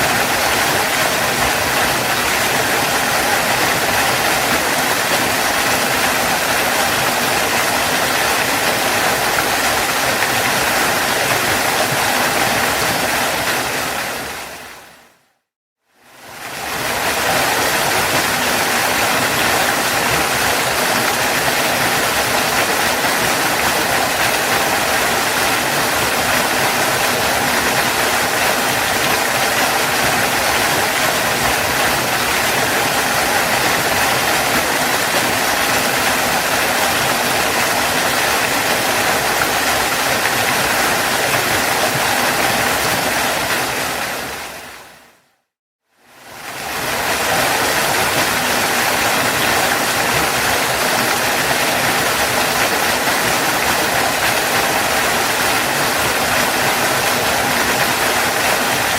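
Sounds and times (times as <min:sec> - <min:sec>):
waterfall rushing: 0:00.0 - 0:15.2, 0:16.2 - 0:45.2, 0:46.2 - 0:58.9.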